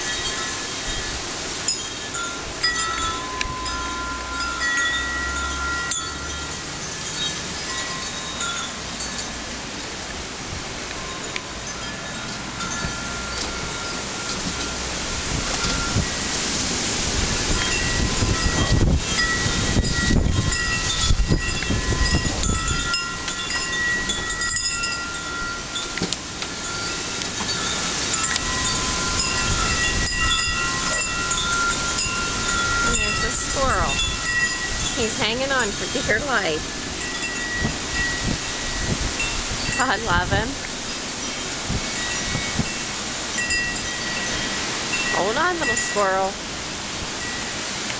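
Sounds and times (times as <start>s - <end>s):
thin high steady tones: 0.0s - 9.5s, 17.4s - 46.4s
strong wind rushing: 0.0s - 25.8s, 26.6s - 47.3s
wind chimes ringing: 0.0s - 47.9s.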